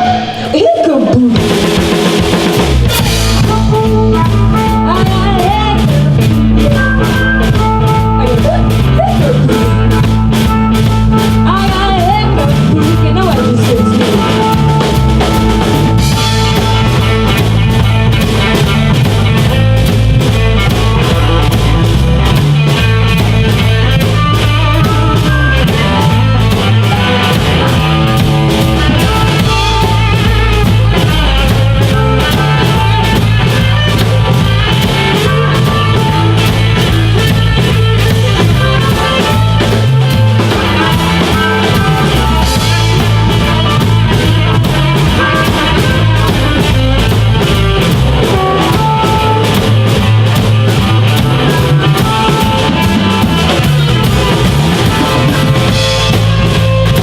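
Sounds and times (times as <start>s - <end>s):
blues band playing: 0.0s - 57.0s
driving drum beat: 0.0s - 57.0s.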